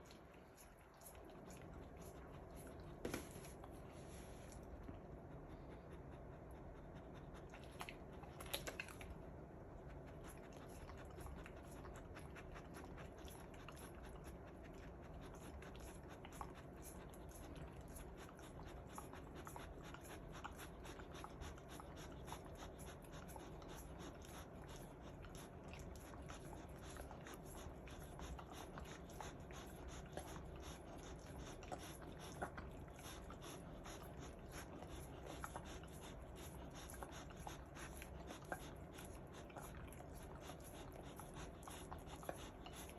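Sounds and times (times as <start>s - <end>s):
dog chewing and licking ice pop: 0.0s - 3.8s, 4.7s - 42.9s.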